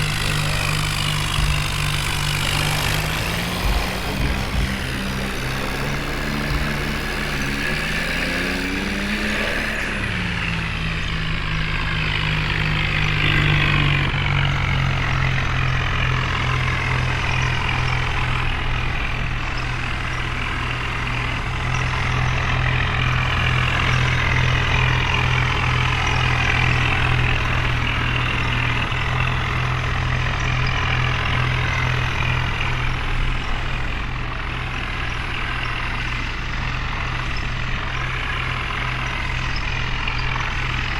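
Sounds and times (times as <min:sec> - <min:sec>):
heavy diesel engine under load: 0:00.0 - 0:40.9.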